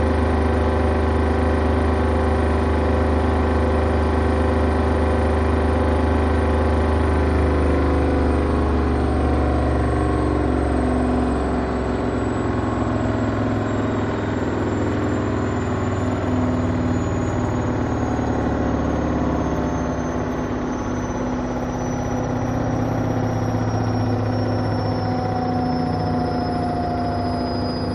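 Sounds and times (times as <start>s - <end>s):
motor high whine: 0.0s - 27.9s.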